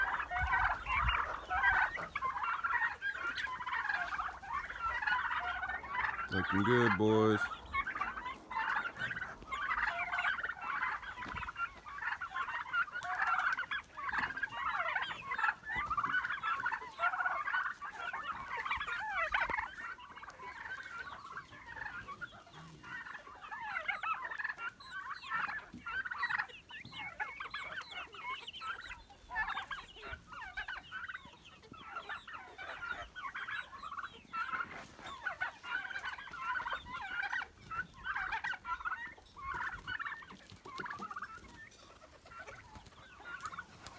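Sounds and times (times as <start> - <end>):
flock of birds chirping: 0.0 - 43.9.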